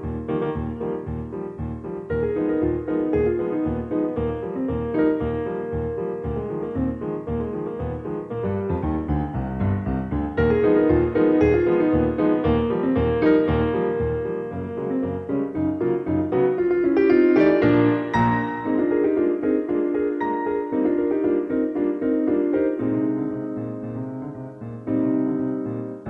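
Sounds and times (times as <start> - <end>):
background piano music: 0.0 - 26.0.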